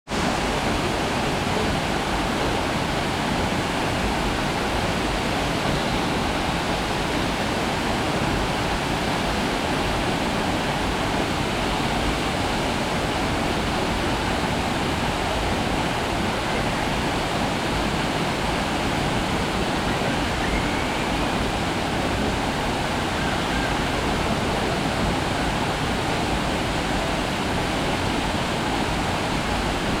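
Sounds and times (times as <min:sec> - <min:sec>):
waterfall roaring: 0:00.1 - 0:30.0.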